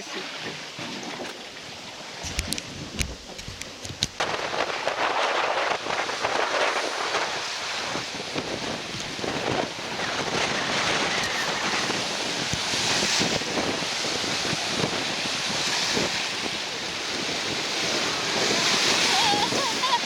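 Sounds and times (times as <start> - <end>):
waves breaking on shore: 0.0 - 20.0
wind buffeting microphone: 1.8 - 20.0.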